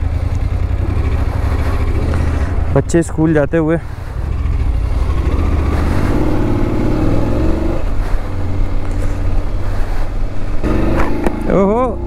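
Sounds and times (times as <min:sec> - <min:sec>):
motorcycle engine accelerating: 0:00.0 - 0:09.6, 0:10.3 - 0:12.0.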